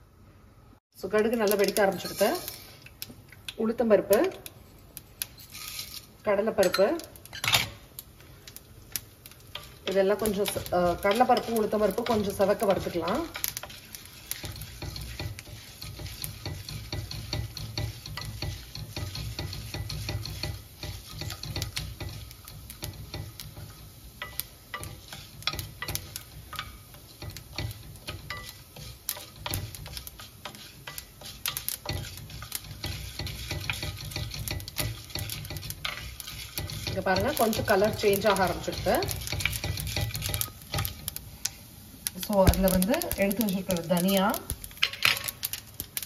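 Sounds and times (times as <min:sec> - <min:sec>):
oil sizzling: 0:01.0 - 0:46.0
spoon scraping frying pan: 0:01.5 - 0:07.8, 0:08.4 - 0:45.8.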